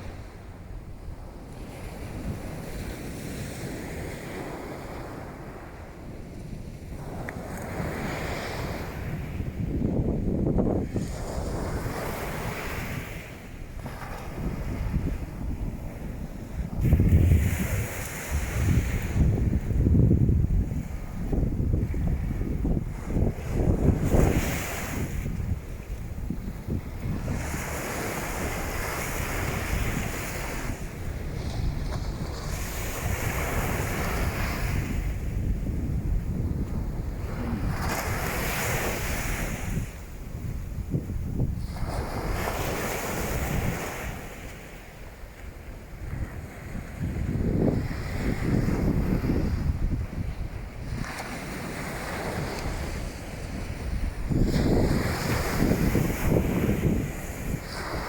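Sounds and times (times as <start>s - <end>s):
waves washing onto beach: 0.0s - 58.0s
wind buffeting microphone: 0.0s - 58.0s.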